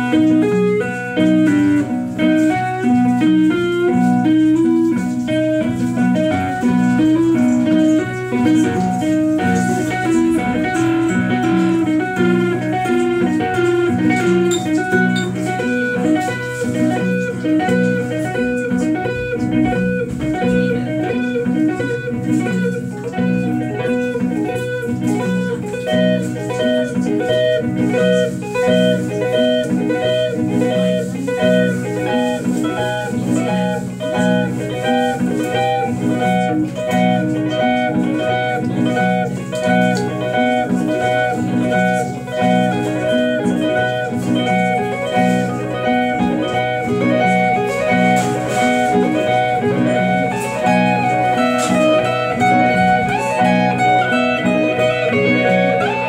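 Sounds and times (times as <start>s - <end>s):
electric guitar through amplifier: 0.0s - 56.0s.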